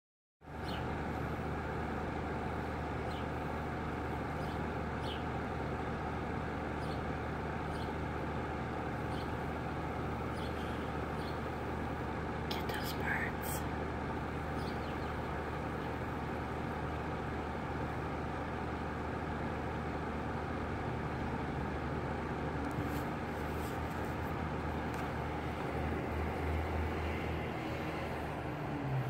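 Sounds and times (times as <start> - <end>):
traffic rumble: 0.5 - 29.0.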